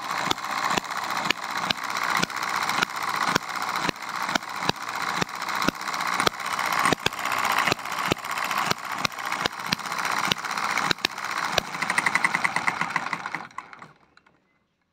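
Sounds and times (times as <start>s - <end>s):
engine coasting ticking: 0.0s - 14.4s
mechanical clatter: 0.0s - 14.9s
model engine firing pops: 0.1s - 14.0s.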